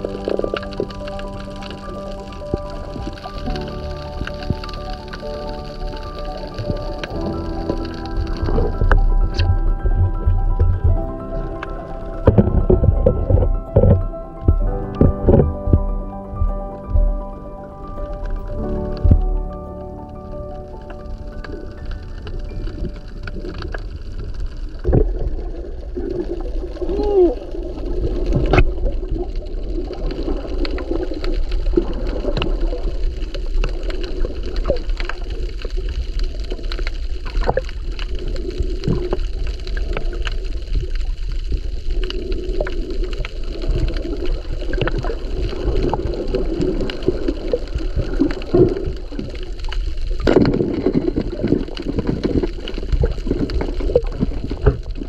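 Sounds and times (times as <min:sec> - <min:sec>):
muffled underwater gurgling: 0:00.0 - 0:55.0.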